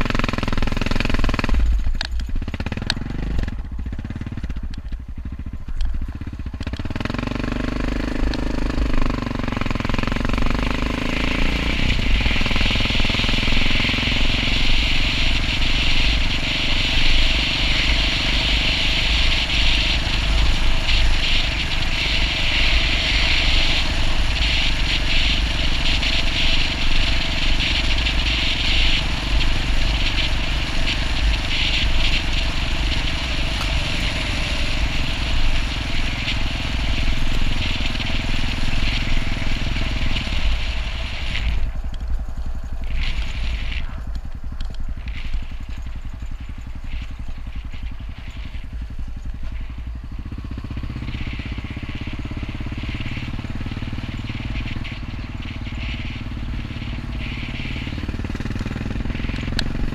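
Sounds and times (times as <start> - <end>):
motorcycle engine: 0.0 - 59.9
wind and gravel rushing: 10.4 - 59.9.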